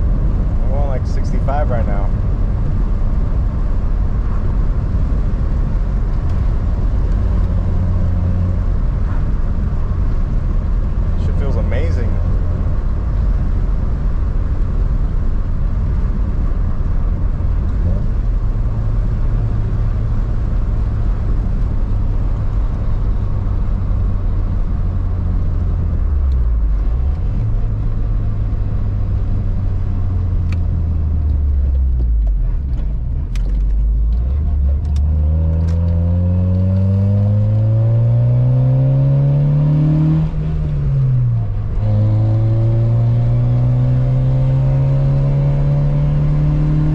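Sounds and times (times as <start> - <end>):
car engine and road drone: 0.0 - 46.9.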